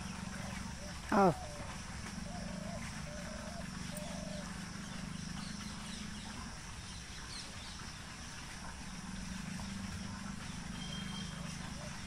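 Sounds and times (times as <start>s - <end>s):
faint bird chirps: 0.0s - 8.0s, 9.4s - 12.0s
low hum and hiss: 0.0s - 12.0s.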